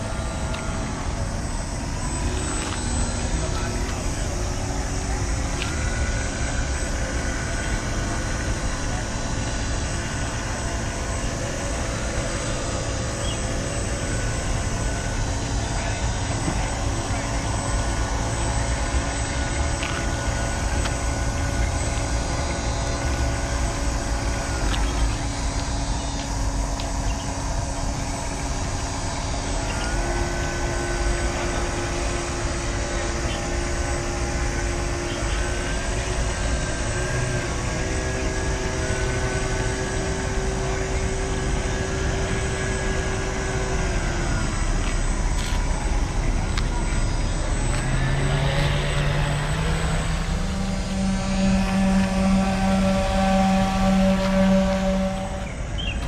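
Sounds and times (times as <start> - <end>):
model boat motors whining: 0.0 - 56.0.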